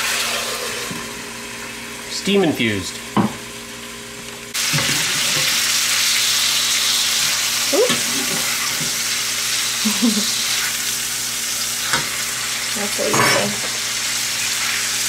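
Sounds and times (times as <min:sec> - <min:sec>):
fish sizzling in a skillet: 0:00.0 - 0:02.0, 0:03.5 - 0:15.0.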